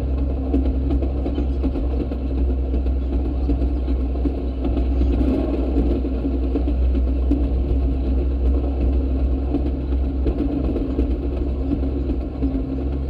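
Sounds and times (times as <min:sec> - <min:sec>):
small engine droning: 0:00.0 - 0:13.0
steel wheels rolling on track: 0:00.0 - 0:13.0.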